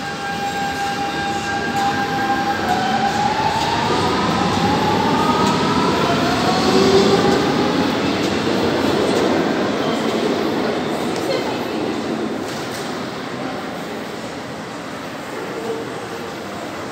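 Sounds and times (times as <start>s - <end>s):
train rumble: 0.0s - 16.9s.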